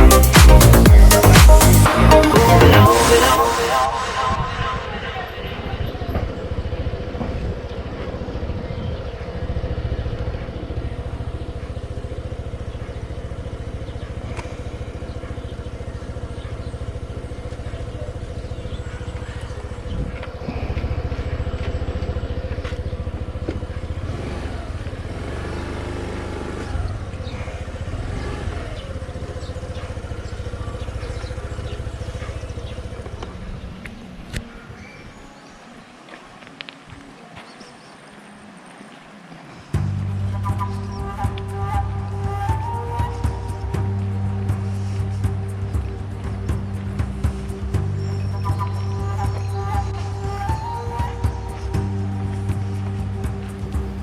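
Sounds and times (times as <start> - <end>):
vehicle engine running: 0.0 - 33.9, 39.8 - 50.4, 51.2 - 54.0.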